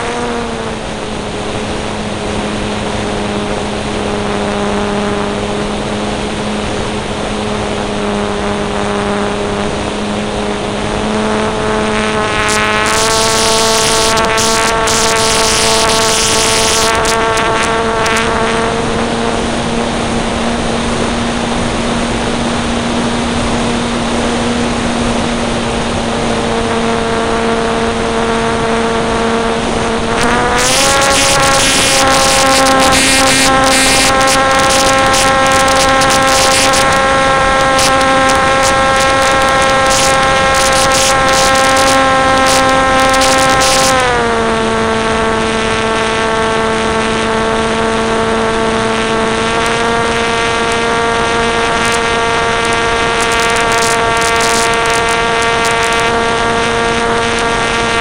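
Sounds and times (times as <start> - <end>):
model aircraft motor and propeller: 0.0 - 58.0.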